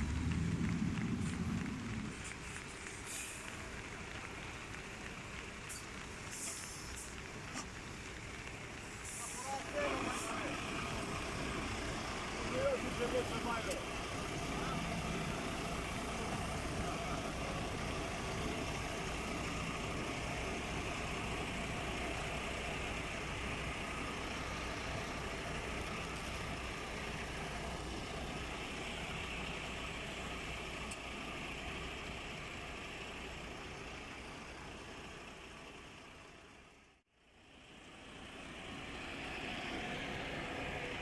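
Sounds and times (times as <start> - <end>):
diesel truck engine idling: 0.0 - 41.0
steady hiss: 1.2 - 35.2.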